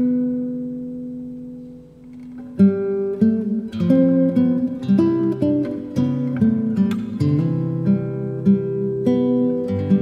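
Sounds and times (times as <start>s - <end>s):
acoustic guitar plucked melody: 0.0s - 10.0s.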